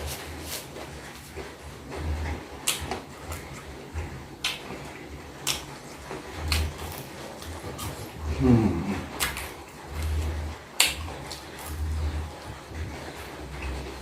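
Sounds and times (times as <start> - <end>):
chewing: 0.1 - 14.0.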